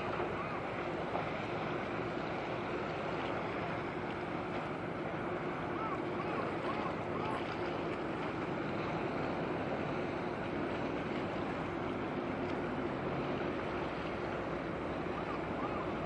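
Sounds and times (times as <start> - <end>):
ship engine drone: 0.0 - 16.0
water noise: 0.0 - 16.0
wind: 0.0 - 16.0.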